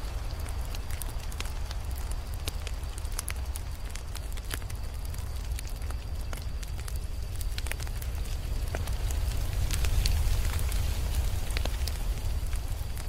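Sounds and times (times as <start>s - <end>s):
low fire rumble: 0.0s - 13.0s
wood fire pops and crackles: 0.0s - 13.0s.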